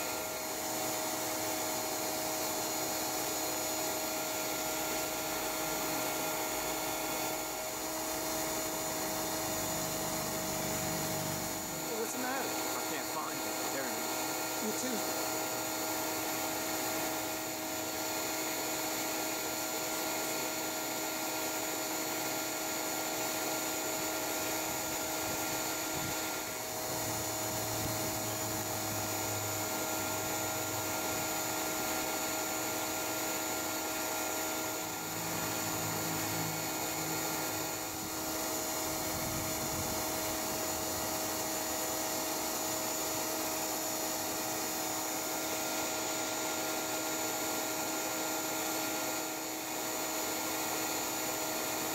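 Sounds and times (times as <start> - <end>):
vacuum motor whine: 0.0 - 51.9.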